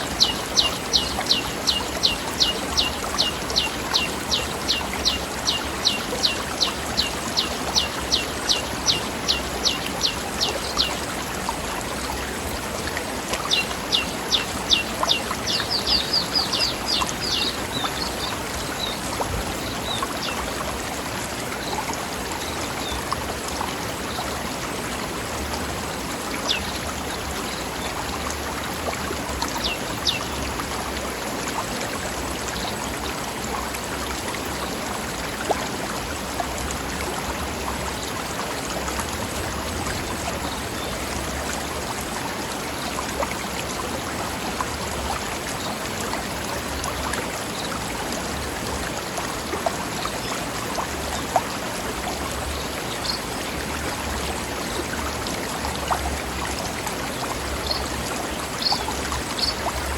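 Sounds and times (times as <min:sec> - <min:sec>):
mountain stream over rocks: 0:00.0 - 0:59.9
small water splashes: 0:00.0 - 0:59.9.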